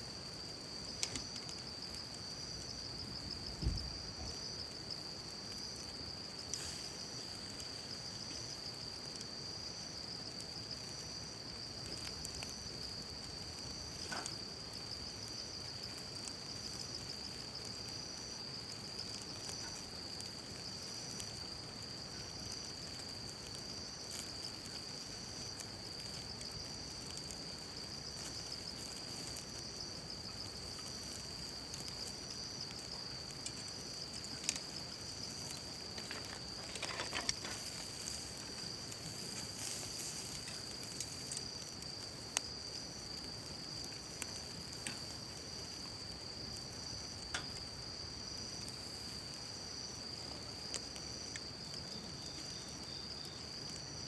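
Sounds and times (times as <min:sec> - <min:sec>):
insect chirp: 0:00.0 - 0:54.0
insects trilling: 0:00.0 - 0:54.0.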